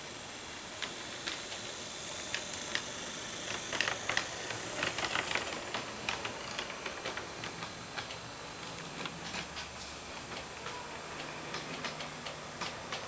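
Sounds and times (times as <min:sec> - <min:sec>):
model train wheels clicking: 0:00.0 - 0:13.0.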